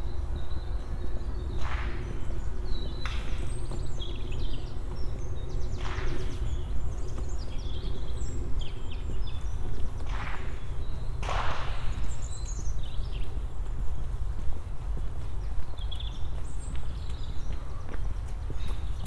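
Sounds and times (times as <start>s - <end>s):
songbirds chirping and trilling: 0.0s - 19.0s.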